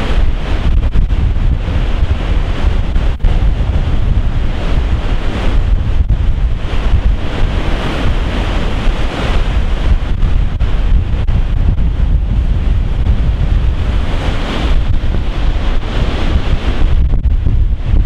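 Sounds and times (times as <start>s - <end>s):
storm waves breaking on rocks: 0.0s - 18.0s
wind buffeting microphone: 0.0s - 18.0s.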